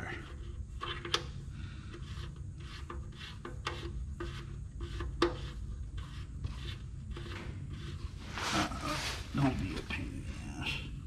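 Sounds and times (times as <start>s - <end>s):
oil-line fittings rubbing and scraping: 0.0s - 10.0s.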